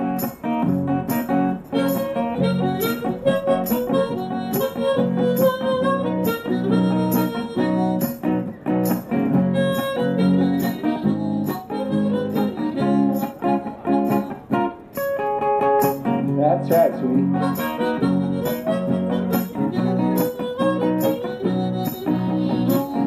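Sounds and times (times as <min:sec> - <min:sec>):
harmonica melody: 0:00.0 - 0:23.0
strummed acoustic guitar: 0:00.0 - 0:23.0.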